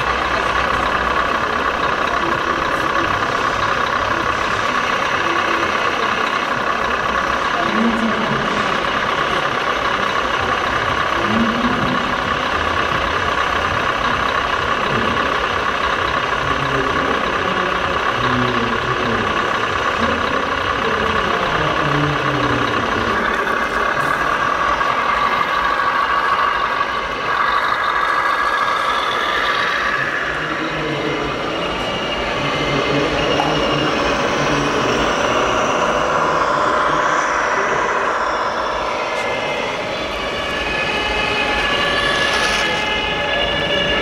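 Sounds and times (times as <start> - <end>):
crowd in a busy hall: 0.0 - 44.0
model truck engine: 0.0 - 44.0.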